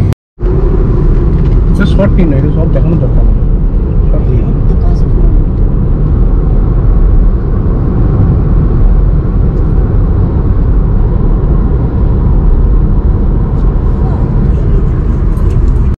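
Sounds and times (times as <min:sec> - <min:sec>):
road and wind noise rumble: 0:00.0 - 0:16.0.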